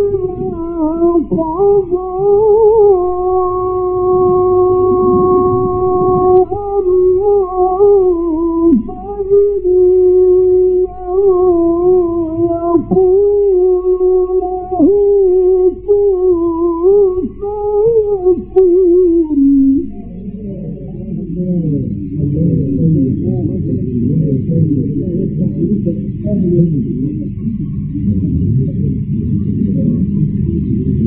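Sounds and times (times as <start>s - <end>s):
low recording hum: 0.0s - 31.0s.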